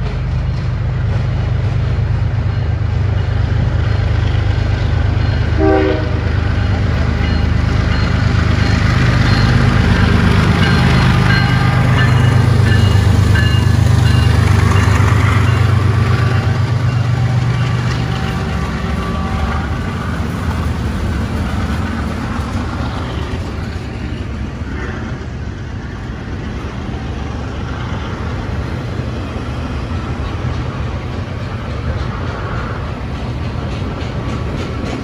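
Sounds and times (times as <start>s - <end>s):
diesel locomotive engine rumble: 0.0s - 35.0s
freight cars rolling on rails: 0.0s - 35.0s.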